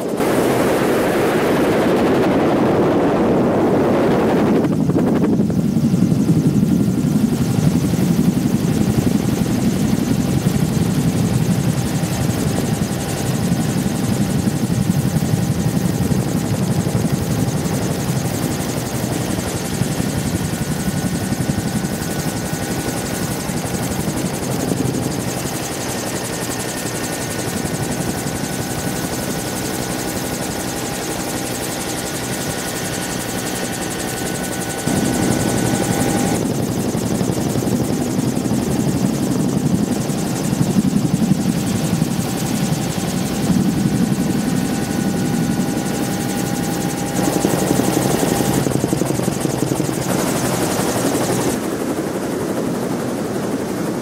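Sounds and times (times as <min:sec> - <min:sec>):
helicopter rotor noise: 0:00.0 - 0:54.0
high turbine whine: 0:00.0 - 0:54.0.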